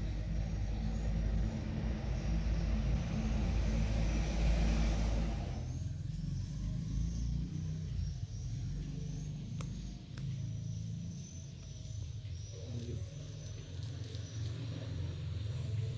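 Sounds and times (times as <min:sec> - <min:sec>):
vehicle engine rumbling: 0:00.0 - 0:15.9.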